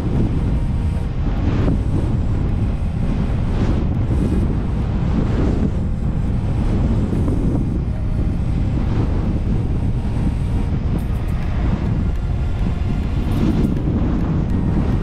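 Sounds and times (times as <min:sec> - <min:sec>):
low car rumble: 0:00.0 - 0:15.0
wind buffeting microphone: 0:00.0 - 0:15.0.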